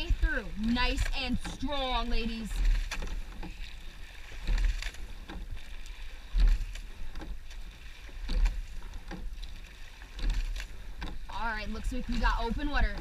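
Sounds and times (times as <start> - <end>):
oar blades catching water: 0.0 - 13.0
oars clunking in oarlocks: 0.0 - 13.0
rowing stroke thumps: 0.0 - 13.0
water rushing past hull: 0.0 - 13.0.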